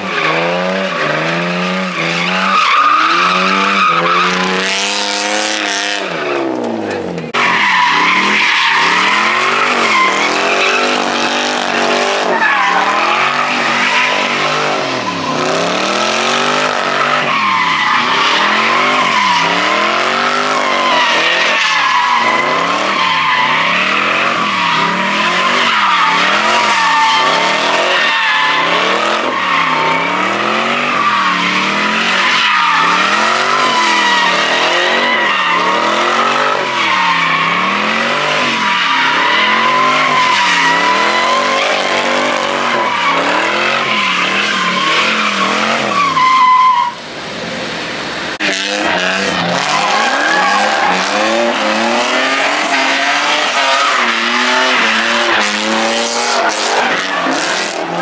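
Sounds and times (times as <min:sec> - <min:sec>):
car engine revving: 0:00.0 - 0:58.0
tires squealing: 0:00.0 - 0:58.0.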